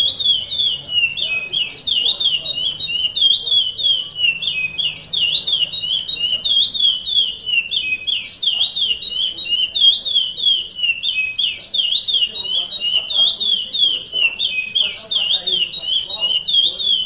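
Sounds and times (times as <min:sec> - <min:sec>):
finch singing whistled notes: 0:00.0 - 0:17.0.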